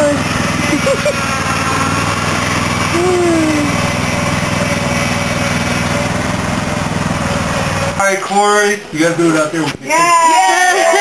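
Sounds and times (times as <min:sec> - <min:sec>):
small tractor engine running: 0:00.0 - 0:09.7.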